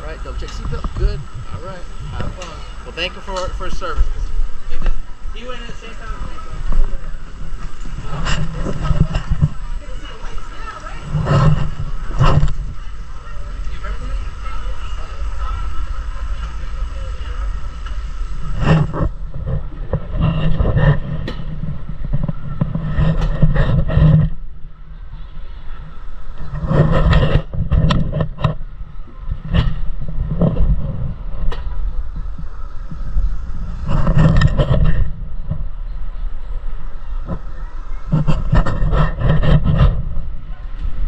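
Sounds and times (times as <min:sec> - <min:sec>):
mechanical hum: 0:00.0 - 0:41.0.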